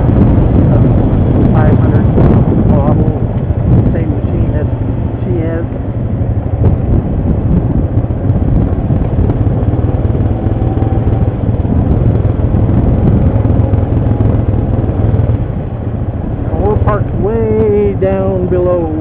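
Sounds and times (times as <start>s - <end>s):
atv engine droning: 0.0s - 19.0s.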